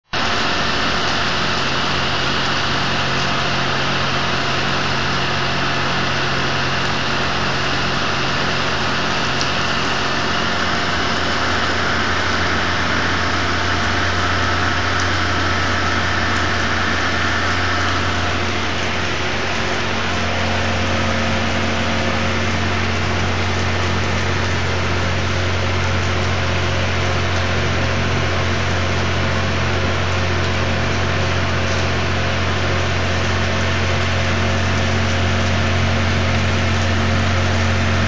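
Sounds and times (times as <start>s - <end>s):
heavy rain on paving: 0.1s - 38.0s
low steady hum: 0.2s - 38.0s.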